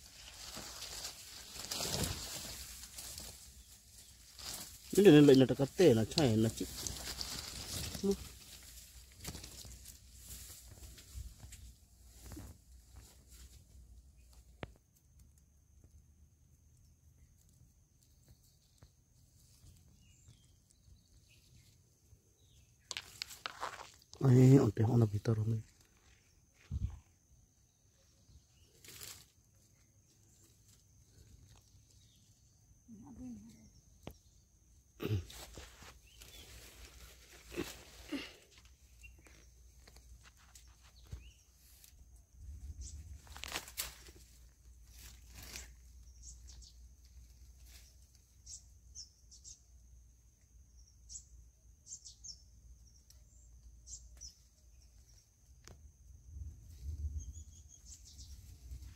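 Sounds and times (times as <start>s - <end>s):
faint chirps: 0.0s - 58.9s.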